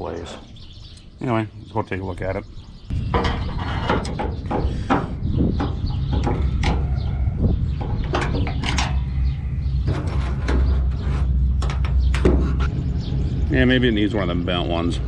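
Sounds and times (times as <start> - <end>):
steady low rumble: 2.6 - 15.0.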